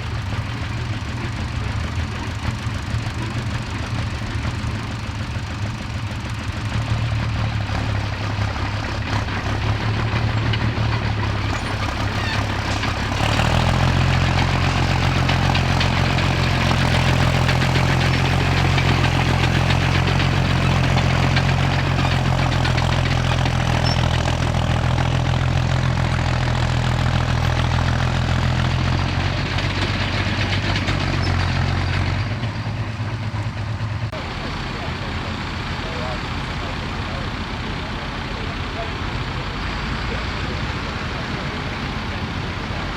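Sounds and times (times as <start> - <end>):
louder engine running: 0.0 - 42.9
tractor engine deep note: 0.0 - 42.9.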